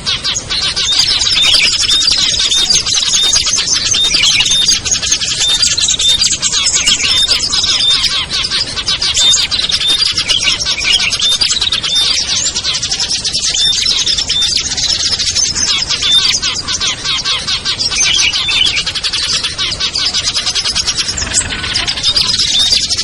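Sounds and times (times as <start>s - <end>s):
chorus of songbirds chattering: 0.0s - 23.0s.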